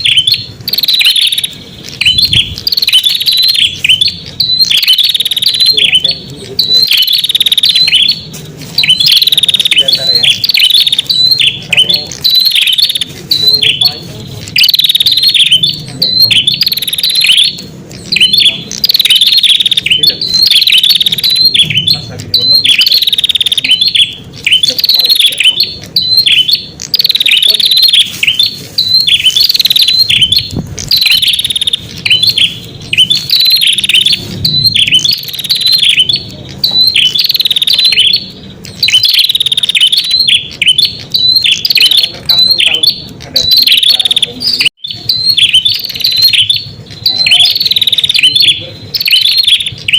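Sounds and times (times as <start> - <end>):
bird chirping song: 0.0 - 49.9.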